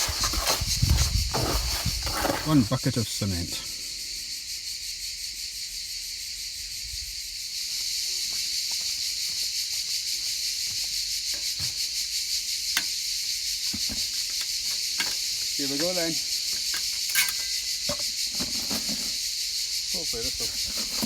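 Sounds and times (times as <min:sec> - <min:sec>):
insect chorus buzzing: 0:00.0 - 0:21.0.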